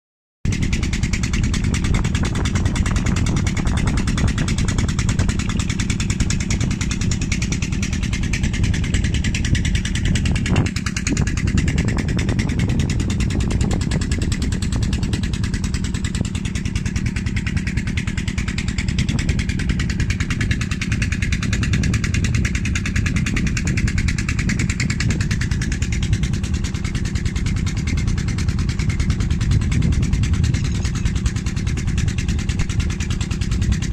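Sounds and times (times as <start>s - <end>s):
wind rumbling on microphone: 0.5s - 33.9s.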